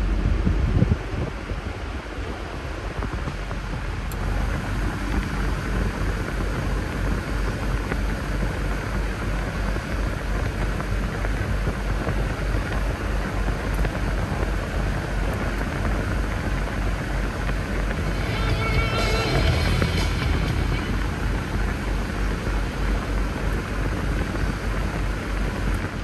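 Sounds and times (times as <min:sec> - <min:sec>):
blower fan rushing air: 0:00.0 - 0:26.0
low rumble: 0:00.0 - 0:26.0.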